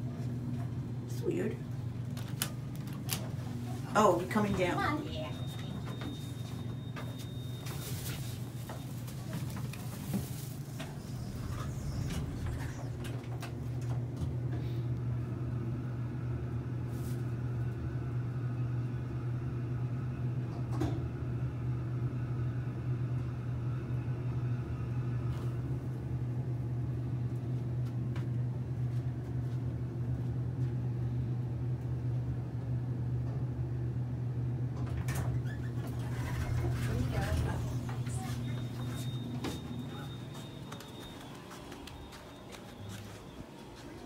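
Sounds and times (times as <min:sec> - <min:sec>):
elevator car humming: 0:00.0 - 0:44.0.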